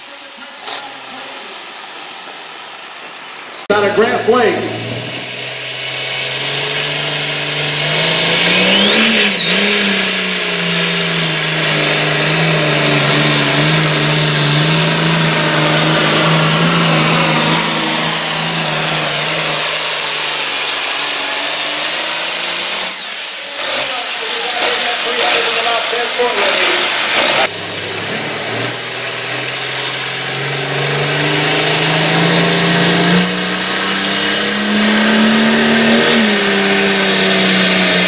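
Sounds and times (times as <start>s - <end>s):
tractor diesel engine at full throttle: 0.0s - 38.0s.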